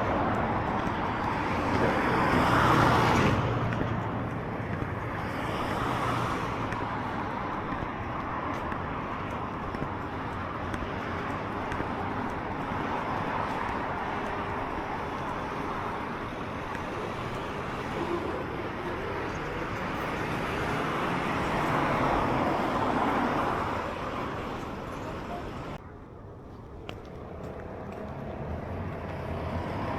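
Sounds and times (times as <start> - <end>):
road traffic passing: 0.0 - 29.9.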